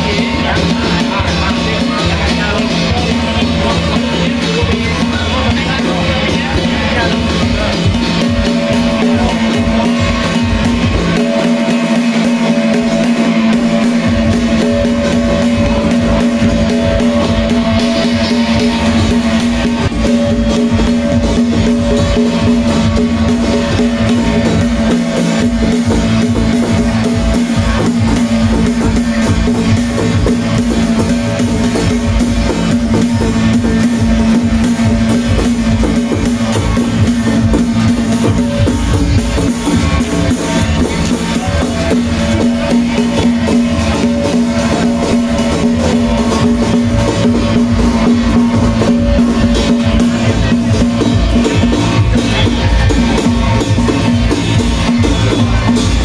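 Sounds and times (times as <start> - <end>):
loud music with drum kit: 0.0 - 56.0.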